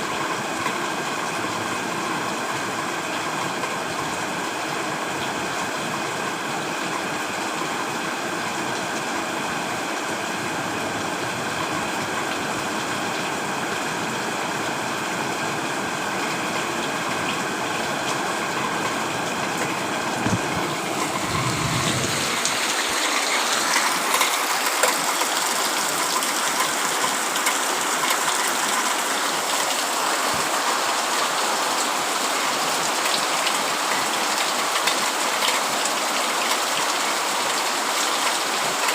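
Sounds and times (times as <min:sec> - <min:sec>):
heavy rain falling: 0:00.0 - 0:38.9
raindrops pattering on a surface: 0:00.1 - 0:38.9.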